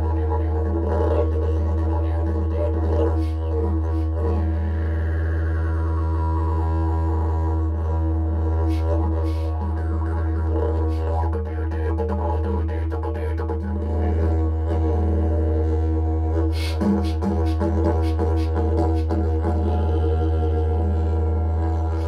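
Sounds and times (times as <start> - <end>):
didgeridoo droning: 0.0 - 22.0.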